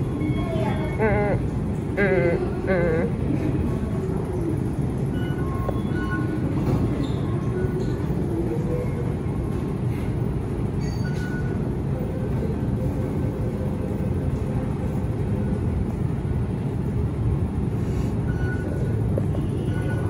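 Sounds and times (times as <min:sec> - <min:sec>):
train moving slowly rumbling: 0:00.0 - 0:20.0.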